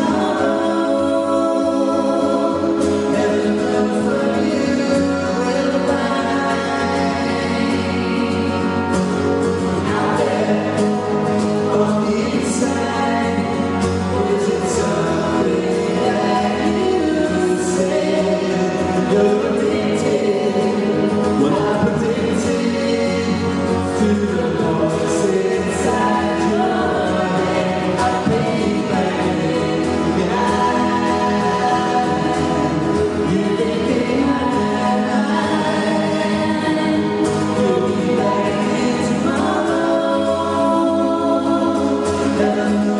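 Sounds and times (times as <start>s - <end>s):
guitar: 0.0s - 42.9s
voices singing in harmony: 0.0s - 42.9s.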